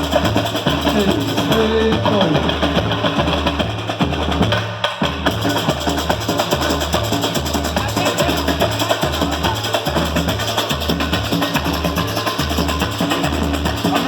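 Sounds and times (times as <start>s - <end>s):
deep bass drums beating: 0.0s - 14.0s
rattling percussion: 0.0s - 14.0s.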